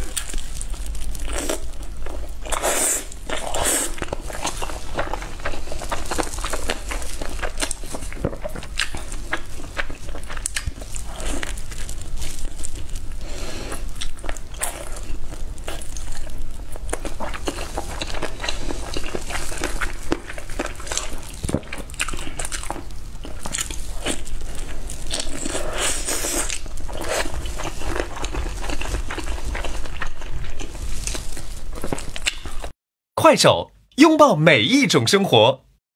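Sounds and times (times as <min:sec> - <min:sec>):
biting and chewing: 0:00.0 - 0:32.7.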